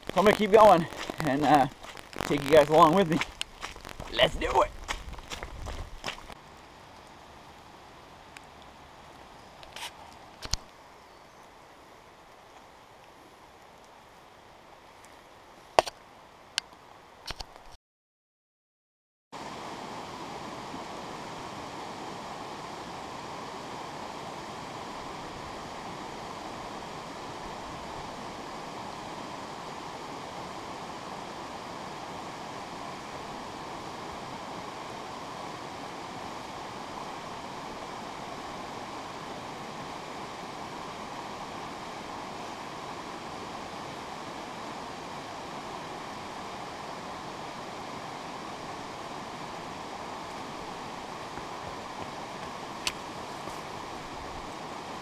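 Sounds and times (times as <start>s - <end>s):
creek rushing: 0.0s - 17.0s, 19.4s - 55.0s.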